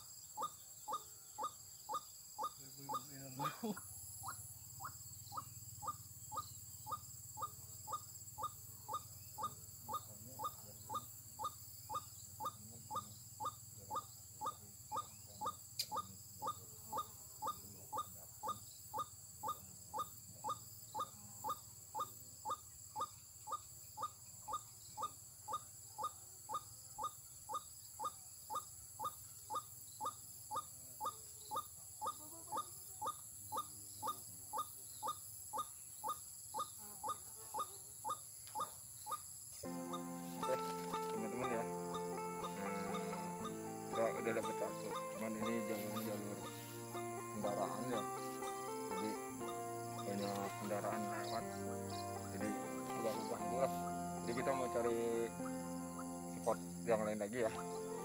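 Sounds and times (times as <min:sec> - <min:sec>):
bird call played back: 0:00.0 - 0:58.0.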